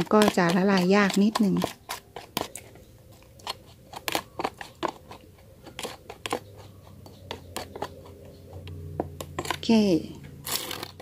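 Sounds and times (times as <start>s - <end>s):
metal spoon scraping plastic cup: 0.0s - 11.0s.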